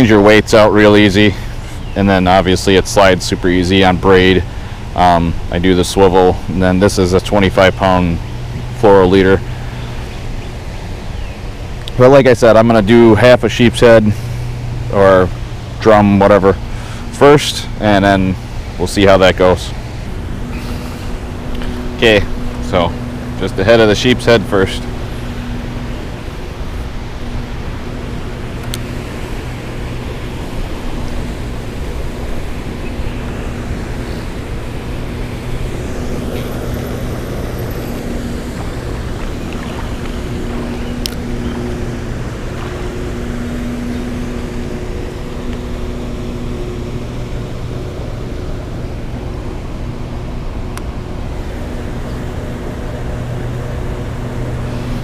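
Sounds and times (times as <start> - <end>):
low hum: 0.0 - 55.0
water rushing through spillway: 0.0 - 55.0.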